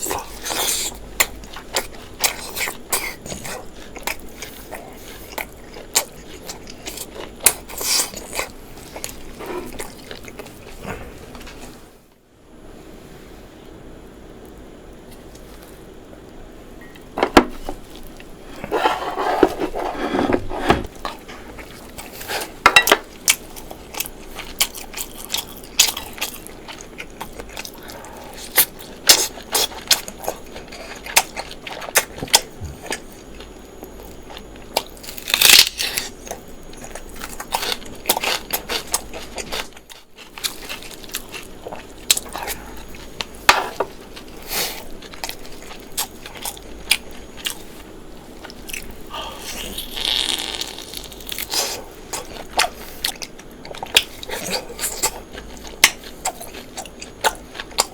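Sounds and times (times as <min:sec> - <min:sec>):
person chewing crunchy food: 0:00.0 - 0:11.8, 0:17.0 - 0:57.9.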